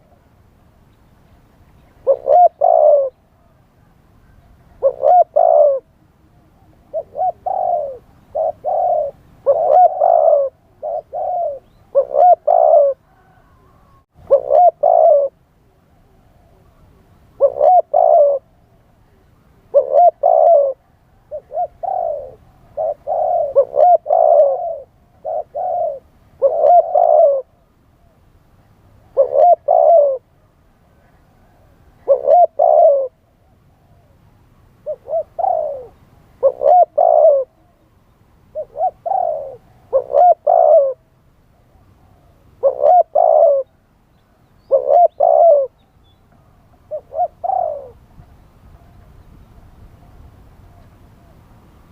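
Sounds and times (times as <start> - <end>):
dove cooing: 1.8 - 28.3, 29.0 - 34.2, 34.8 - 43.9, 44.6 - 51.5.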